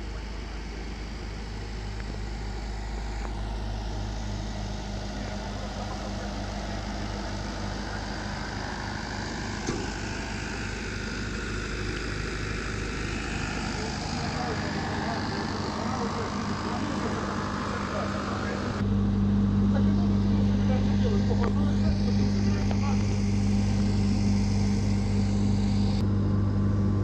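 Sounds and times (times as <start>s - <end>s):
train machinery humming: 0.0s - 26.0s.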